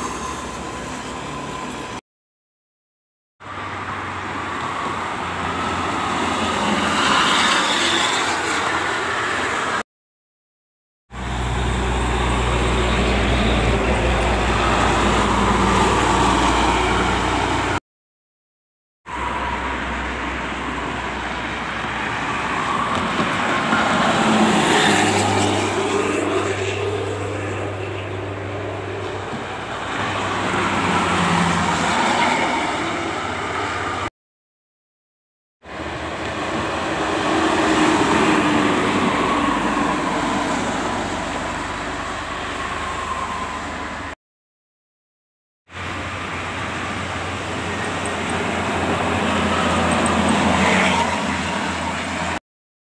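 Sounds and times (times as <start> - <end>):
traffic passing on highway: 0.0 - 2.0, 3.4 - 9.8, 11.1 - 17.8, 19.1 - 34.1, 35.6 - 44.2, 45.7 - 52.4.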